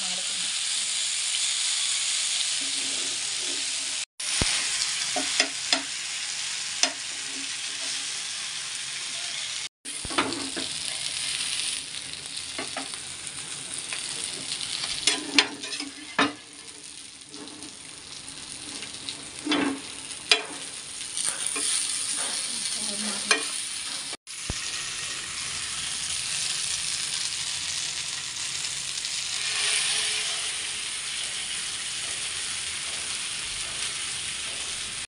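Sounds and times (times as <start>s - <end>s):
fish sizzling in oil: 0.0s - 35.0s.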